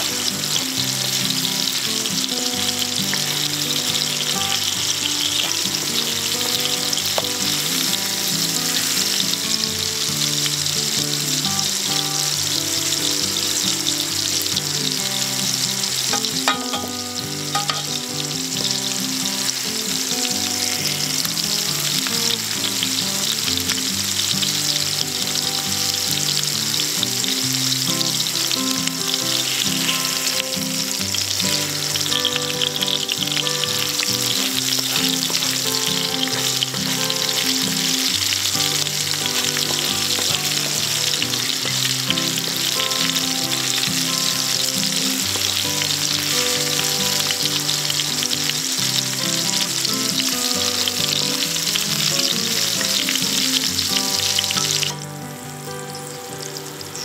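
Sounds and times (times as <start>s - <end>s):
fish sizzling in frying pan: 0.0s - 57.0s
soft background music: 0.0s - 57.0s.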